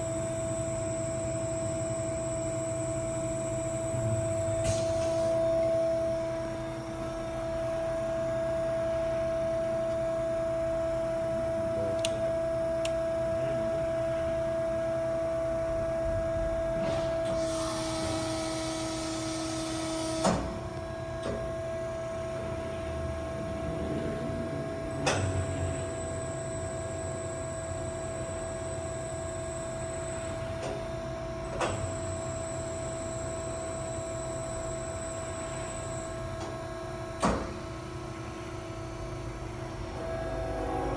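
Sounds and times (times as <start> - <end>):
machine hum with whine: 0.0 - 40.9.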